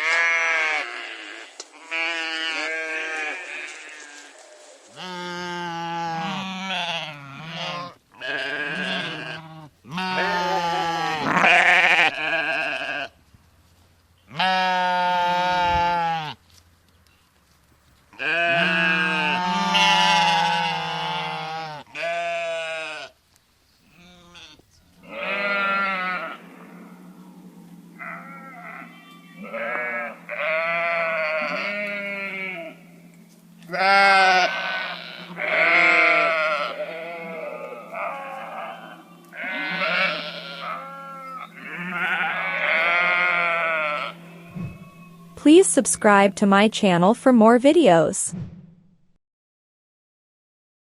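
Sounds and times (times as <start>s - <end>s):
sheep bleating: 0.0s - 4.4s, 5.0s - 13.2s, 14.3s - 16.4s, 18.1s - 23.2s, 23.9s - 45.4s.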